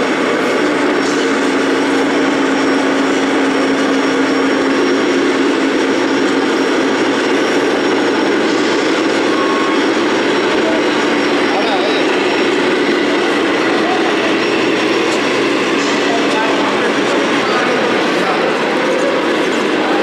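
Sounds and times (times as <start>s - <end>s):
radio-controlled trucks running: 0.0s - 20.0s.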